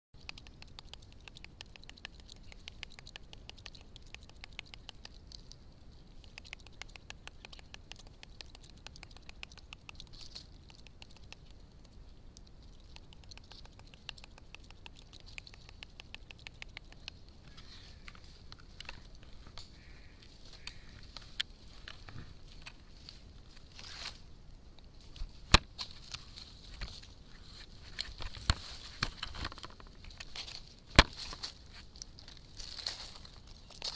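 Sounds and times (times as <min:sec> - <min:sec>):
monkey chattering clicks: 0:00.2 - 0:24.1, 0:25.0 - 0:33.9.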